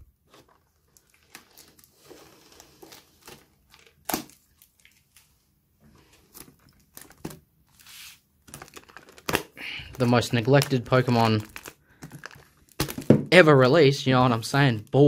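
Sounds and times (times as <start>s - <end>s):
packaging crinkling and rustling: 0.3s - 5.4s, 6.0s - 13.2s.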